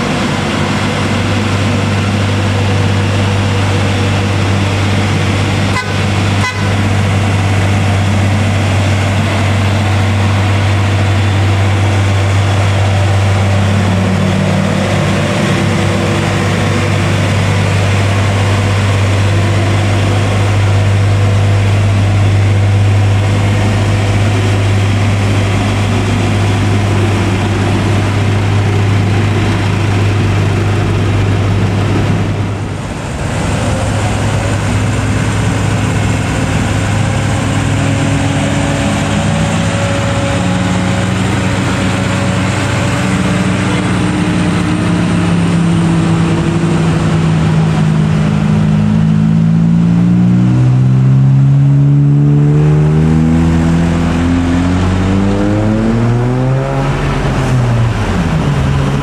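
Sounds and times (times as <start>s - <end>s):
truck diesel engine droning: 0.0s - 59.0s
truck engine labouring uphill: 0.0s - 59.0s.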